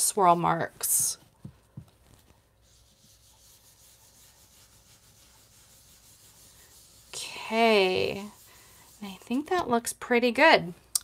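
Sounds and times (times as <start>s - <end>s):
brush rubbing on cardstock: 0.5s - 9.8s.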